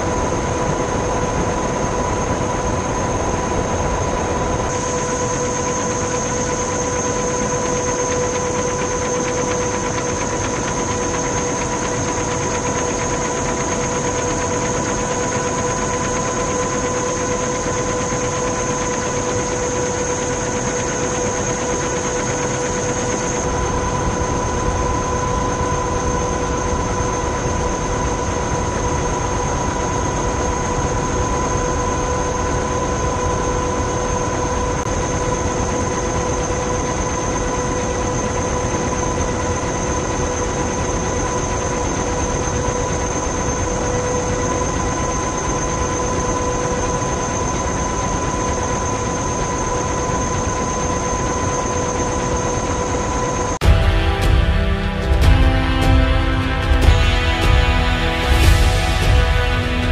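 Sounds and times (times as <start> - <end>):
aircraft engine noise: 0.0 - 59.9.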